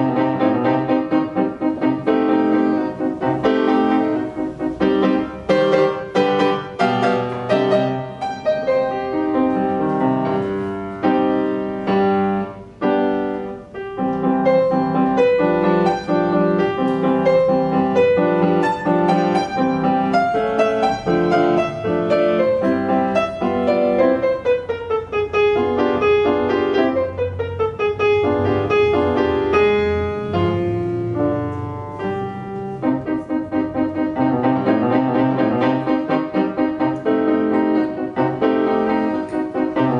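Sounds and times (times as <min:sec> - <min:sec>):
solo grand piano: 0:00.0 - 0:39.9.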